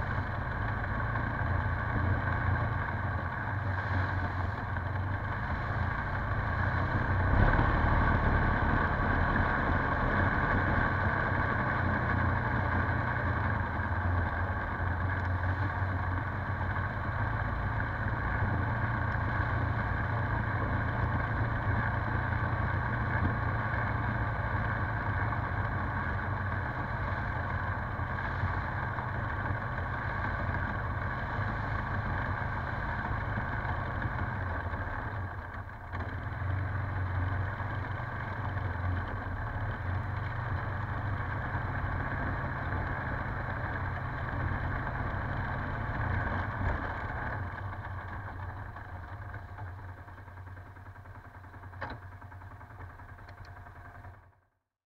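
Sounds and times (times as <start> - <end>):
atv engine running: 0.0 - 54.5.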